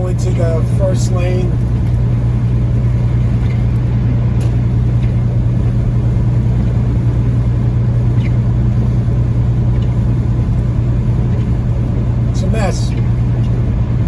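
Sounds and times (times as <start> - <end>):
road noise: 0.0 - 14.0
truck diesel engine droning: 0.0 - 14.0.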